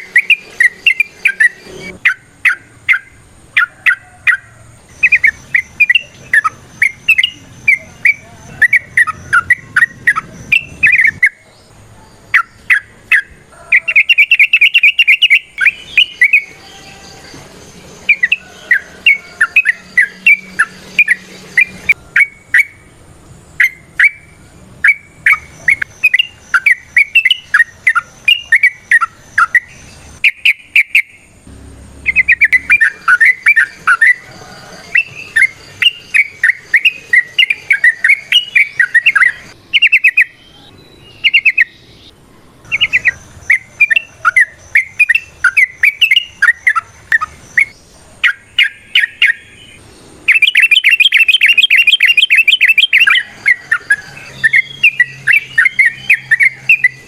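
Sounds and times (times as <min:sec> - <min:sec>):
bird chattering song: 0:00.0 - 0:57.0.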